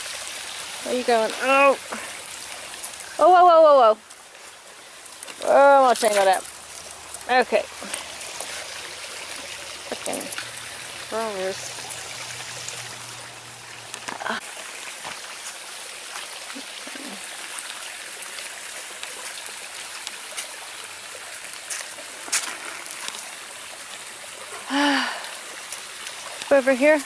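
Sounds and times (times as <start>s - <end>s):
stream trickling over rocks: 0.0s - 27.0s.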